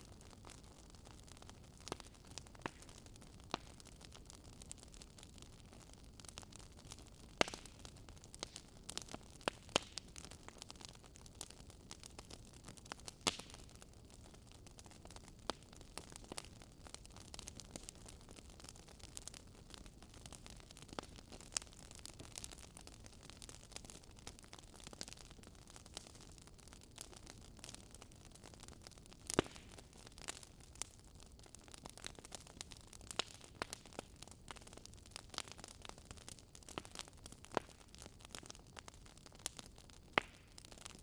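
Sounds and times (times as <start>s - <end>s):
wood fire crackling and popping: 0.0s - 41.0s.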